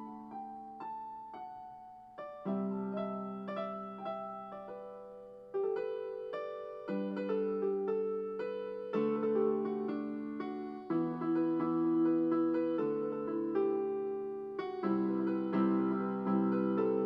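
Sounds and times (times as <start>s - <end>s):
slow soft solo piano: 0.0s - 17.0s.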